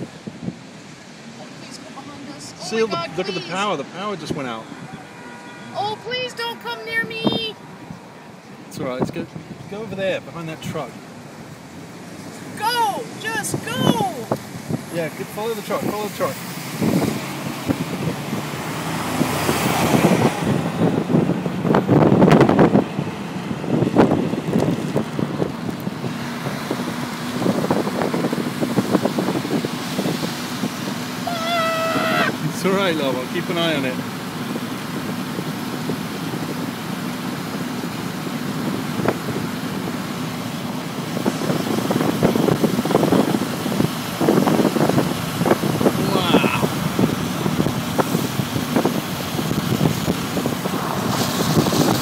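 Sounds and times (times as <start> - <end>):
gusting wind on microphone: 0.0 - 1.4, 2.3 - 10.6, 11.2 - 52.0
car road noise: 0.0 - 52.0.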